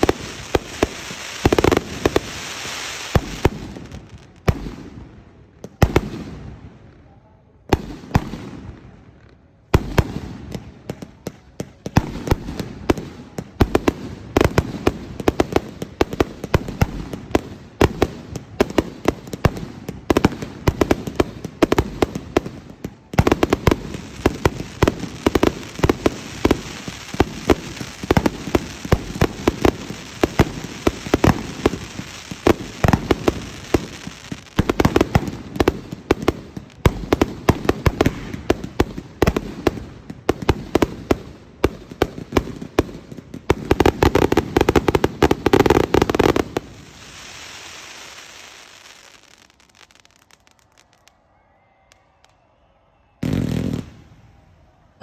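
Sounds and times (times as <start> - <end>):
fireworks bursting: 0.0 - 6.9, 7.6 - 51.2, 53.2 - 55.0.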